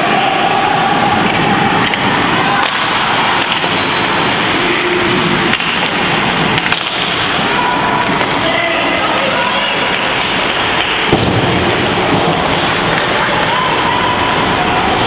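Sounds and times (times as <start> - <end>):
arena noise: 0.0 - 15.0
hockey sticks clacking on puck: 1.1 - 13.9.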